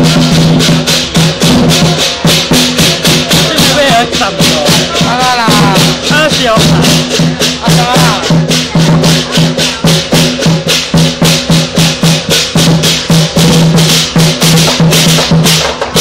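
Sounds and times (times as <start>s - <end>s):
big drum beating: 0.0s - 16.0s
cymbals clashing: 0.0s - 16.0s.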